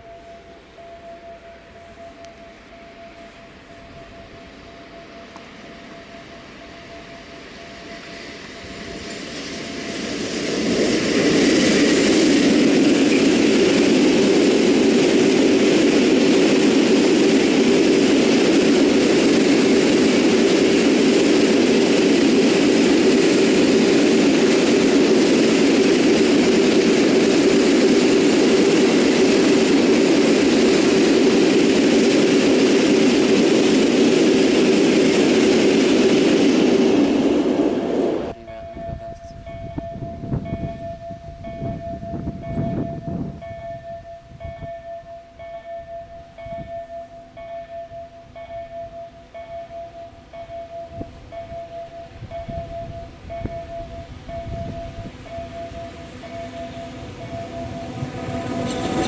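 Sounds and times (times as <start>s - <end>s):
electric locomotive passing: 0.0s - 59.0s
train wheels on rails: 0.0s - 59.0s.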